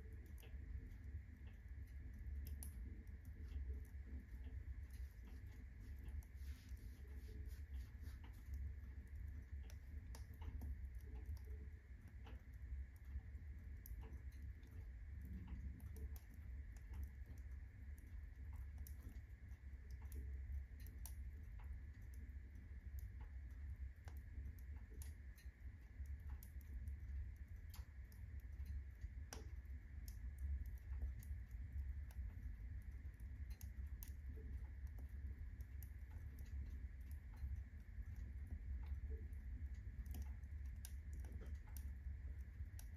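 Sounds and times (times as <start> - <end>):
faint steady whine: 0.0 - 42.9
fire crackling and popping: 0.0 - 42.9
low rumble of flames: 0.0 - 42.9.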